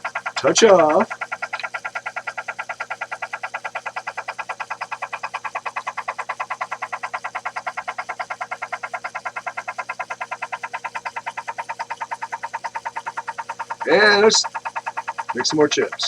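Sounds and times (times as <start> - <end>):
benchtop lathe clattering: 0.0 - 16.0.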